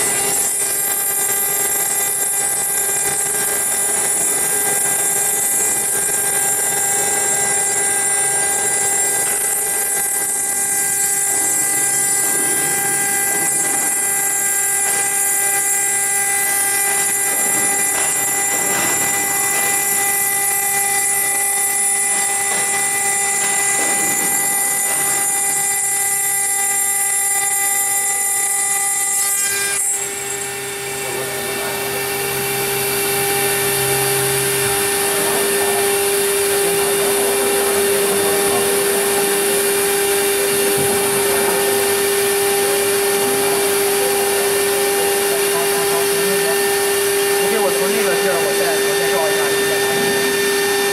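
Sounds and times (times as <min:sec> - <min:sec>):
router spindle whine: 0:00.0 - 0:50.9
stone cutting noise: 0:00.0 - 0:50.9.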